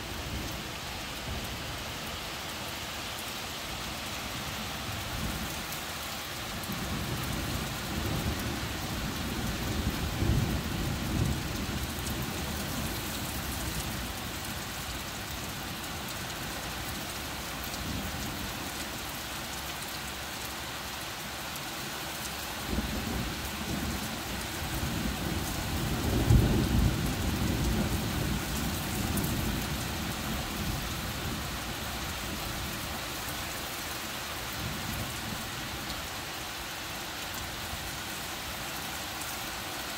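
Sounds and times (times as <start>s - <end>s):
heavy rain on trees: 0.0s - 39.9s.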